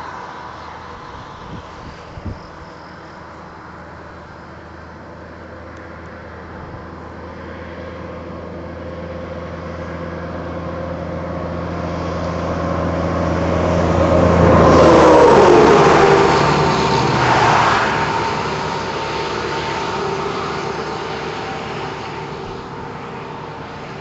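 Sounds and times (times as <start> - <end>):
vehicle passing on highway: 0.0 - 24.0.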